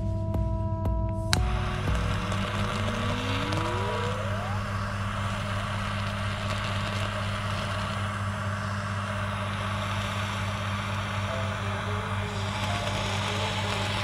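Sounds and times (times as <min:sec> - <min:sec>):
low hum: 0:00.0 - 0:14.0
torch flame hissing: 0:01.4 - 0:14.0.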